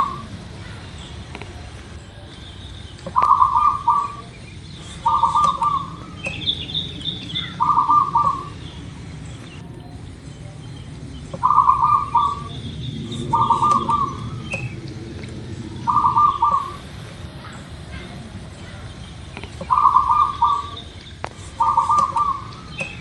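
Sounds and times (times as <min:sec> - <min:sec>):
dove cooing: 0:00.0 - 0:23.0
small birds chirping: 0:00.0 - 0:23.0.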